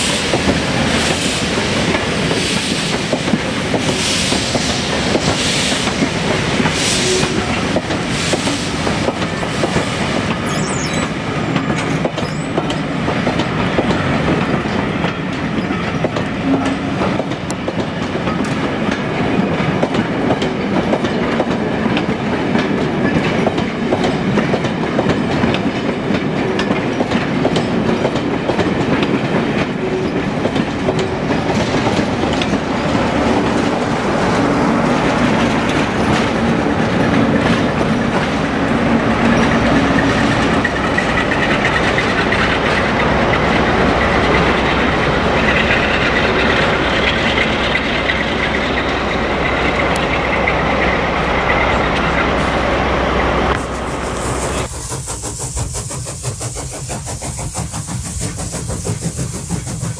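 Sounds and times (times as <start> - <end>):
train wheels clicking over rail joints: 0.0 - 52.6, 53.2 - 59.9
steam locomotive exhaust beats: 0.0 - 59.9.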